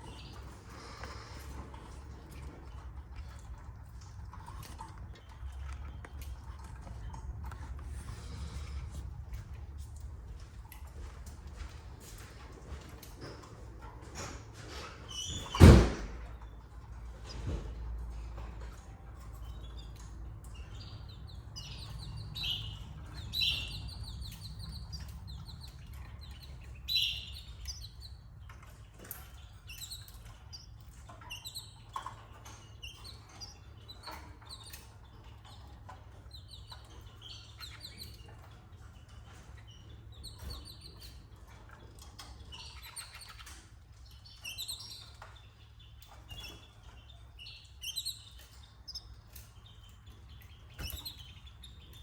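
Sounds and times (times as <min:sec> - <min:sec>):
canaries chirping: 0:00.0 - 0:52.0.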